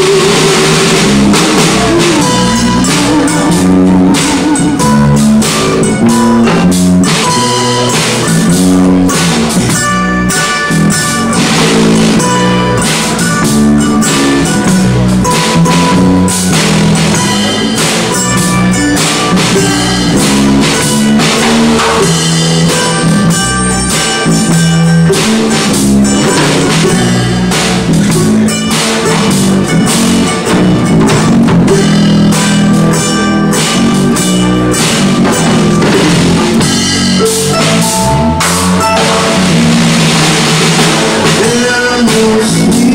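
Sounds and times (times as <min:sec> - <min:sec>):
drum kit with cymbals: 0:00.0 - 0:42.9
electric bass: 0:00.0 - 0:42.9
strummed ukulele: 0:00.0 - 0:42.9.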